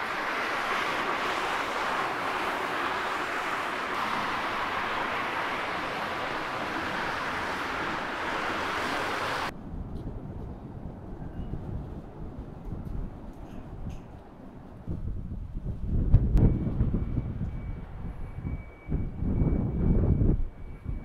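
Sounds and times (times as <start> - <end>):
street traffic roar: 0.0 - 21.0.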